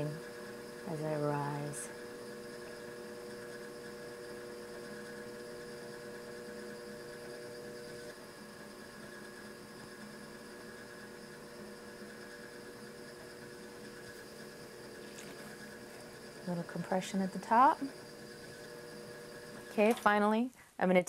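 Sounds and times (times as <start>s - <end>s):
potter's wheel humming: 0.0s - 20.5s.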